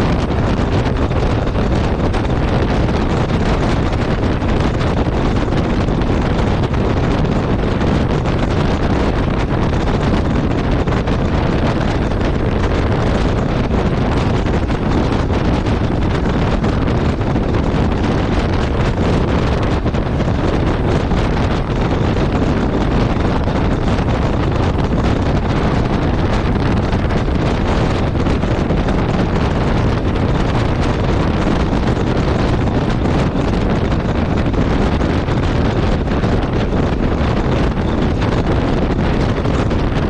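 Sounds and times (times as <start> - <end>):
motorcycle engine: 0.0 - 40.0
wind buffeting microphone: 0.0 - 40.0.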